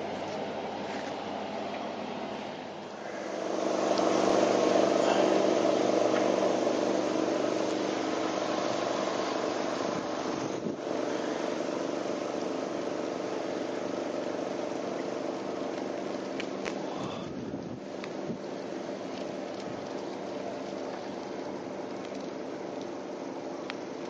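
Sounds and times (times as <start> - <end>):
bicycle tyres hissing on wet asphalt: 2.3 - 24.0.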